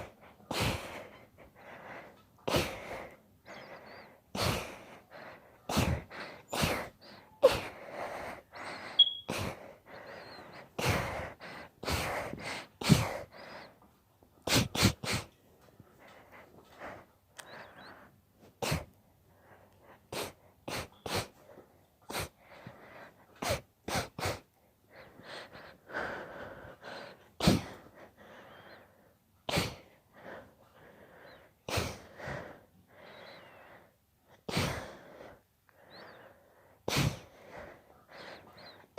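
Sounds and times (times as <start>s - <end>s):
wheezy inhalations: 0.0s - 38.9s.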